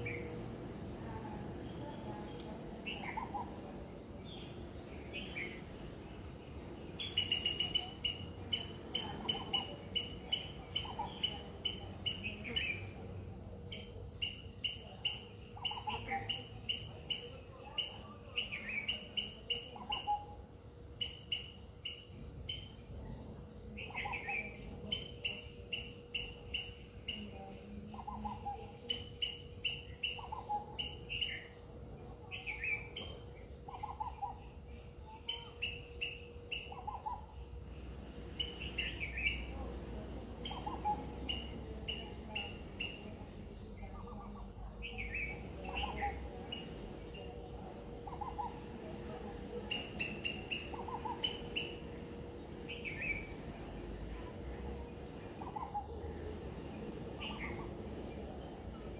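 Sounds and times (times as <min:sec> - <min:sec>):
birds chirping: 0:00.0 - 0:58.9
faint steady hum: 0:00.0 - 0:58.9.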